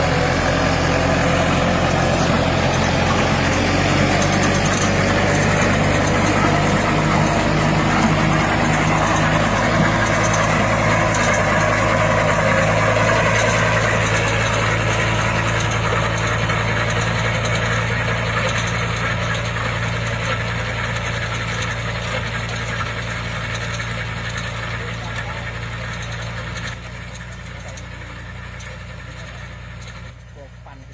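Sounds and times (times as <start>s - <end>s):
farm machine engine running: 0.0s - 30.9s.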